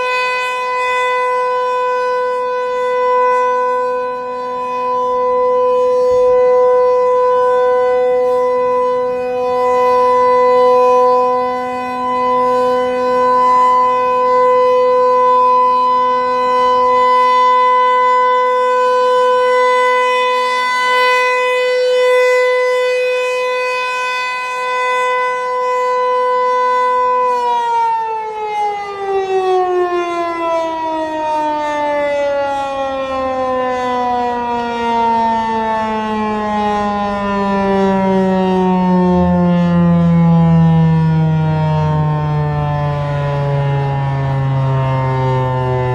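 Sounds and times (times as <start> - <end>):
siren winding down: 0.0 - 45.9
warning siren steady tone: 0.0 - 45.9.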